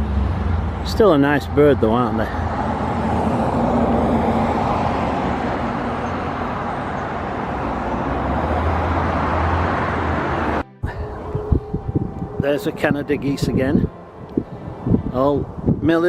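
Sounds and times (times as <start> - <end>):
road traffic roar: 0.0 - 16.0.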